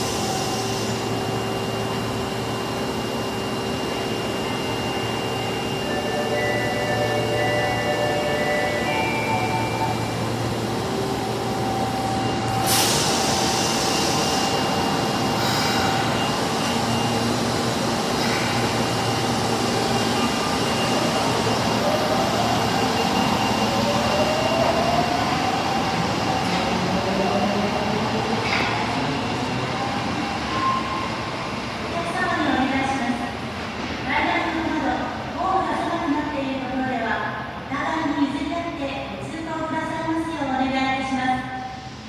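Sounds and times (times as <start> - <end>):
subway train motor whine: 0.0 - 36.4.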